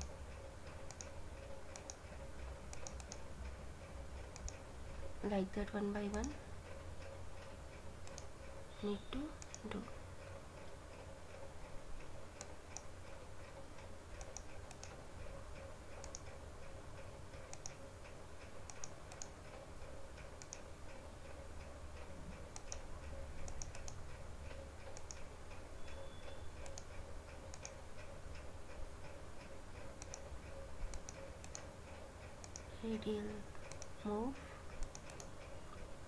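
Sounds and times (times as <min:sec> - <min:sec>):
computer mouse clicking: 0:00.0 - 0:03.6, 0:04.2 - 0:05.1, 0:05.7 - 0:35.9
faint steady hum: 0:00.0 - 0:36.0.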